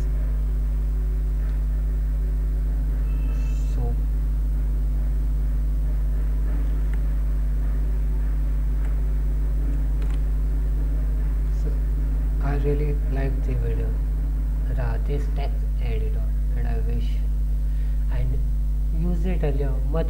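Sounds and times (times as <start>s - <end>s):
buzzy electrical hum: 0.0s - 20.0s.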